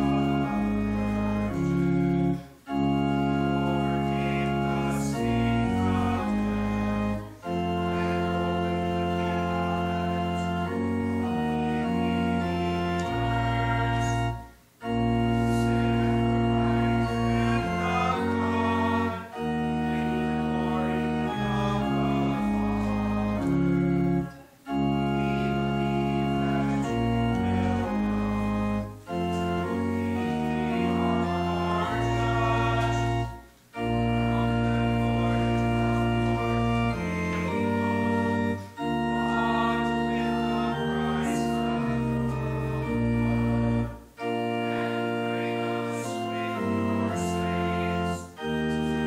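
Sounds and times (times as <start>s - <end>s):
church organ playing a hymn: 0.0s - 49.0s.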